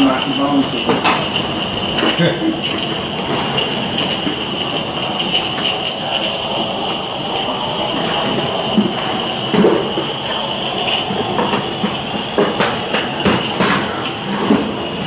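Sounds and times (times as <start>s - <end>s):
model steam locomotive hiss: 0.0s - 15.0s
wagons clicking over track: 0.0s - 15.0s.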